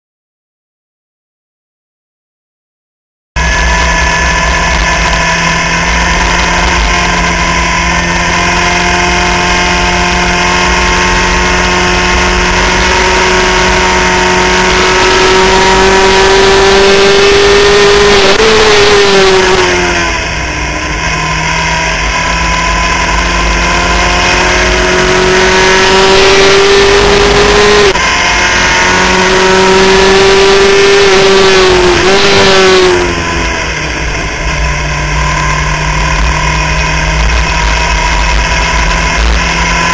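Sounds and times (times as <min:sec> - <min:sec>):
race car engine revving: 0:03.4 - 0:39.9
wind and road noise: 0:03.4 - 0:39.9.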